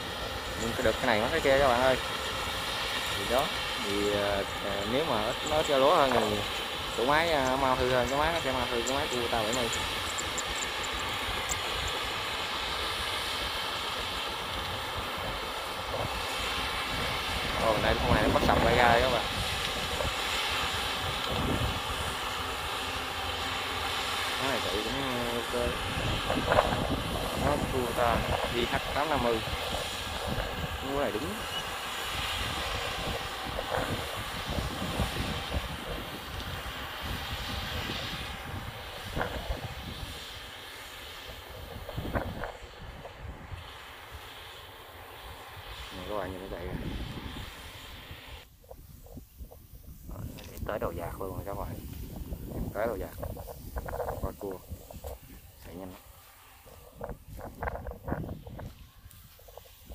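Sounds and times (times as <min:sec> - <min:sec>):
wind buffeting microphone: 0:00.0 - 0:44.4, 0:45.5 - 0:59.9
harvester engine running: 0:00.0 - 0:48.4.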